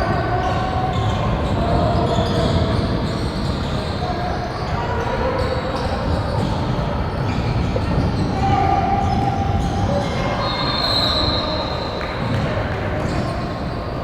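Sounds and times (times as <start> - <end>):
game noise in large hall: 0.0 - 14.0
basketball shoes squeaking: 0.4 - 14.0.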